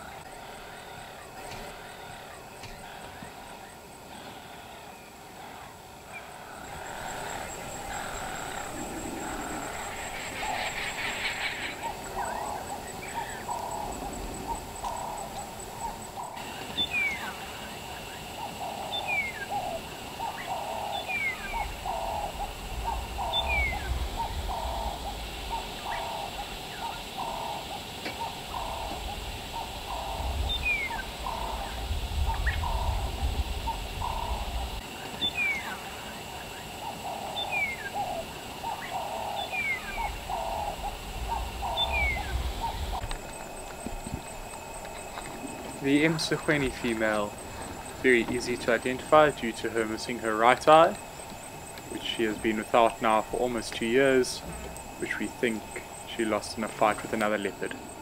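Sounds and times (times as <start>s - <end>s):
bird hooting call: 0.0s - 58.0s.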